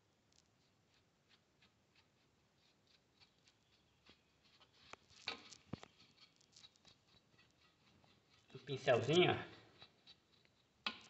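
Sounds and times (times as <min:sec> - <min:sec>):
brush bristles scrubbing metal: 0:00.6 - 0:10.9.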